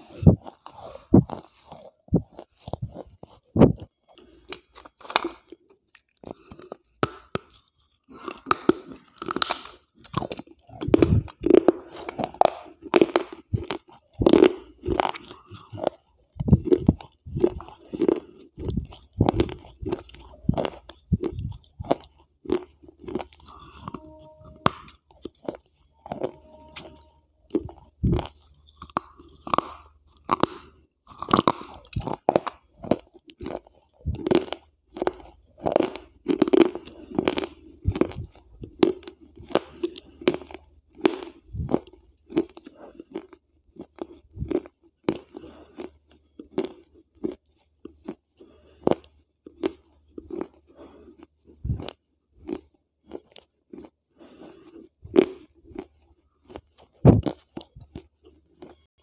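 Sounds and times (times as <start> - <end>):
crunchy chewing close to microphone: 0.0 - 58.9
soft grinding of teeth: 0.0 - 58.9.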